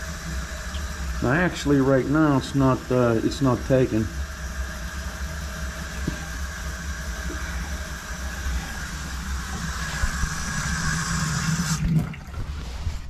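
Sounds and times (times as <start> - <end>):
gas burner rushing: 0.0 - 13.0.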